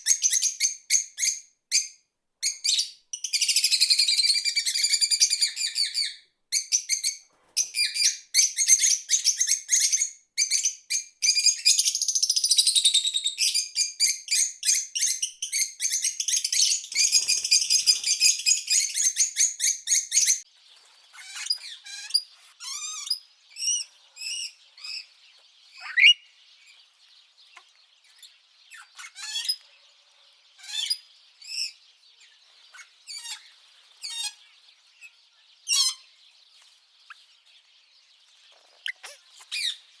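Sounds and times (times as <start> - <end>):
bird chirps: 0.0 - 40.0
songbirds singing: 0.0 - 40.0.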